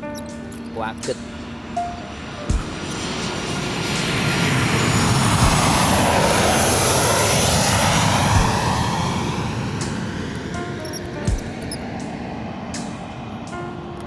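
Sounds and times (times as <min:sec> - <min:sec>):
aircraft passing overhead: 0:00.0 - 0:14.0.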